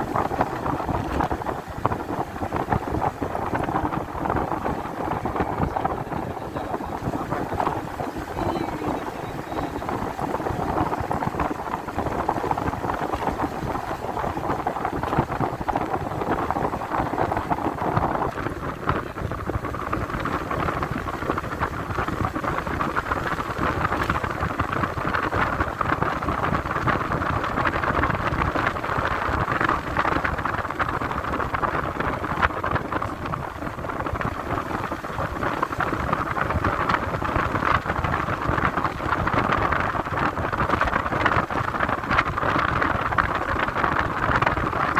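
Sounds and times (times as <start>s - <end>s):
road noise: 0.0s - 44.9s
wind rushing: 0.0s - 44.9s.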